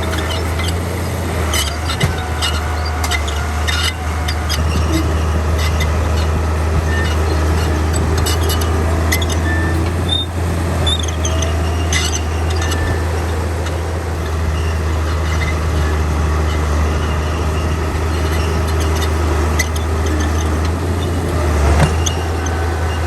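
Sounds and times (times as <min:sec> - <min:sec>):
brief squeaks: 0:00.0 - 0:23.0
diesel engine rumbling under load: 0:00.0 - 0:23.0.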